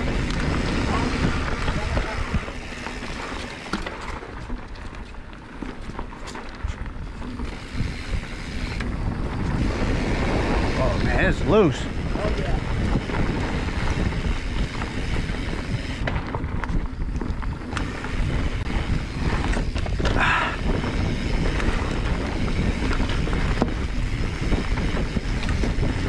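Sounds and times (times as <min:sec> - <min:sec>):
bike clicks and knocks: 0:00.0 - 0:09.8, 0:12.2 - 0:26.0
bike tyres on dry dirt: 0:00.0 - 0:26.0
wind over microphone: 0:00.0 - 0:26.0.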